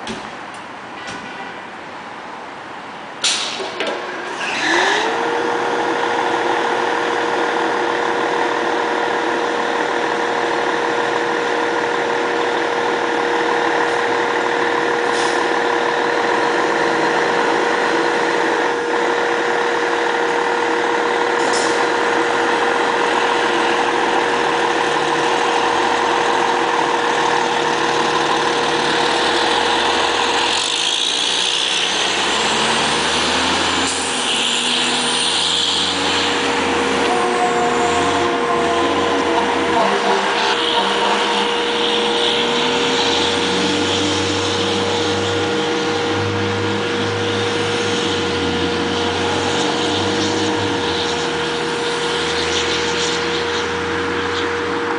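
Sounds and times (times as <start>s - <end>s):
truck engine running: 3.2s - 54.9s
high-pitched whine: 3.5s - 54.9s.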